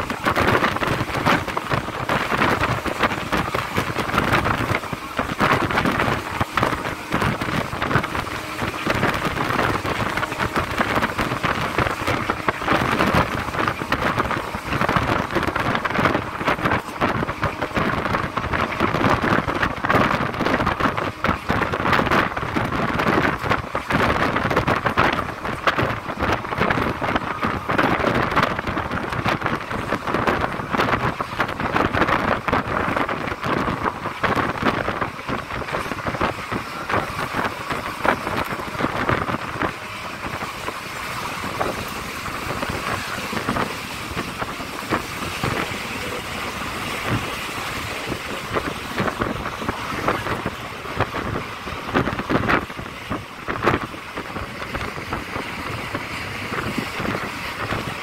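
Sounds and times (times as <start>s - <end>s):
train rattling: 0.0s - 58.0s
train wheel and track noise: 0.0s - 58.0s.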